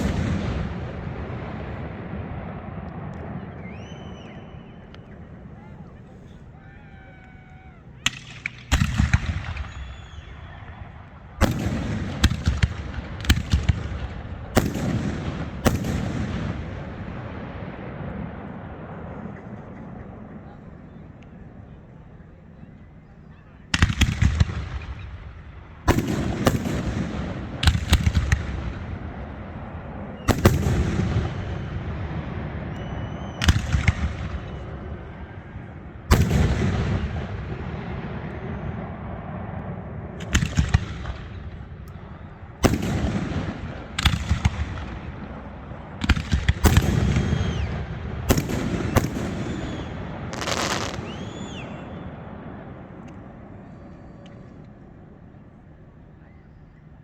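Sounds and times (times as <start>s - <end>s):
fireworks exploding: 0.0s - 21.1s, 23.7s - 54.5s
low rolling echo: 0.0s - 57.0s.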